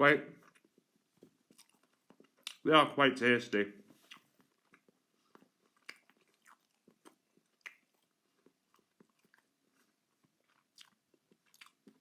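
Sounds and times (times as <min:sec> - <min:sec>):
person chewing crunchy food: 0:00.4 - 0:02.6, 0:04.0 - 0:12.0.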